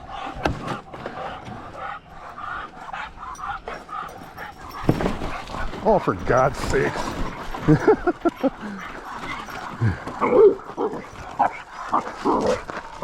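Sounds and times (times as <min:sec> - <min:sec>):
dog barking and yipping: 0:02.5 - 0:13.0.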